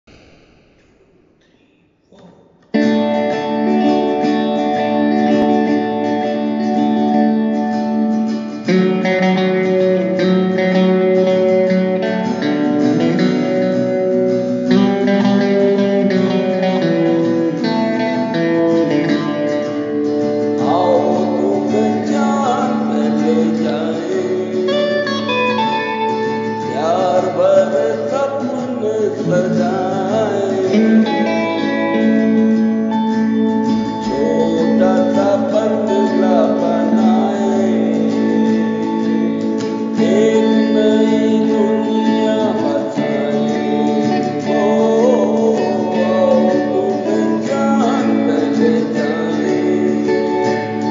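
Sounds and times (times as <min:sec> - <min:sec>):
acoustic guitar strumming: 0:00.1 - 0:50.9
electric lead guitar: 0:02.7 - 0:50.9
person singing: 0:02.8 - 0:50.9.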